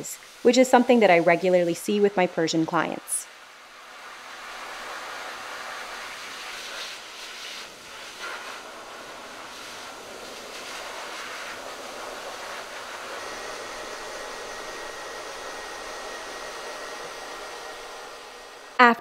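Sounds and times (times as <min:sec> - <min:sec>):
grooming dryer blowing air: 0:00.0 - 0:18.8.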